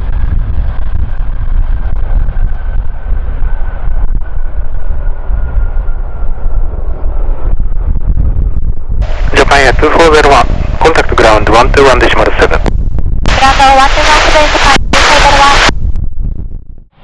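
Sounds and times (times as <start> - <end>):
jet engines whining: 0.0 - 15.7
wind buffeting microphone: 0.0 - 17.0.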